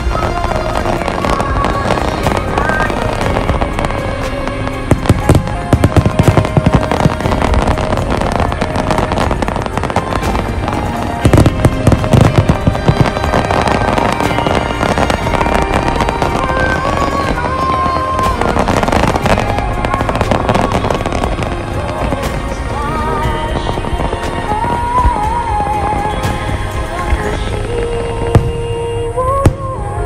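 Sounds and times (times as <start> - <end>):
fireworks booms and crackles: 0.0 - 29.8
music playing: 0.0 - 30.0.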